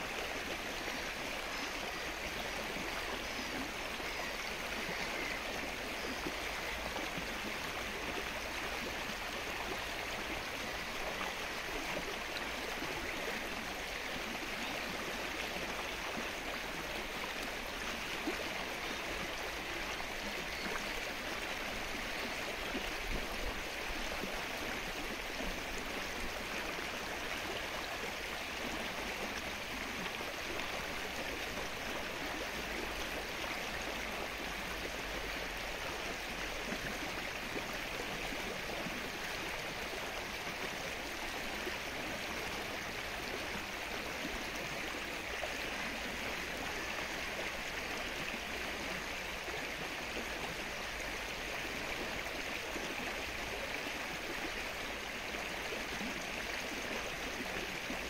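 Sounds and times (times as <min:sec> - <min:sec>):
rain falling on lake water: 0:00.0 - 0:58.0.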